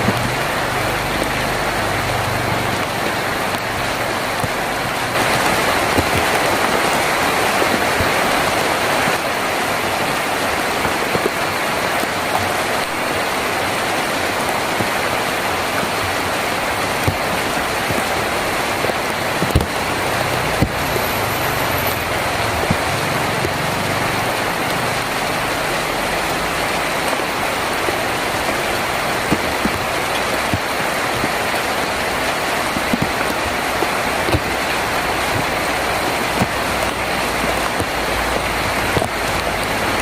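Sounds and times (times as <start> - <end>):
heavy rain on a tin roof: 0.0 - 40.0.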